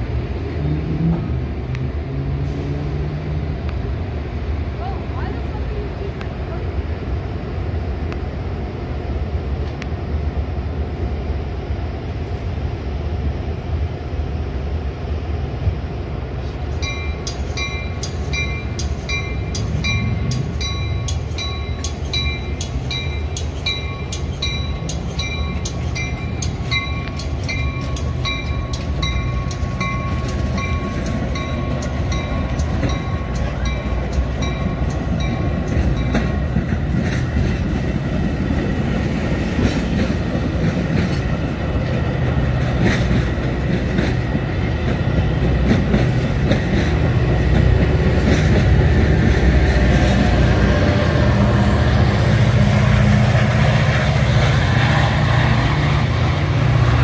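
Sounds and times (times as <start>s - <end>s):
train rumbling past: 0.0s - 57.0s.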